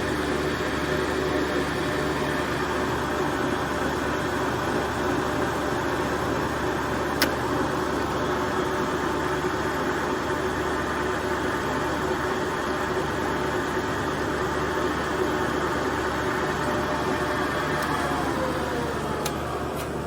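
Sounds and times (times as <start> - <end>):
lathe running with mechanical hum: 0.0 - 20.0.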